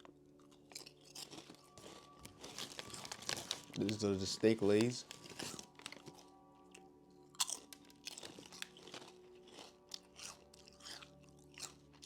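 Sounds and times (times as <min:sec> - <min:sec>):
potato chips crunching: 0:00.0 - 0:12.0.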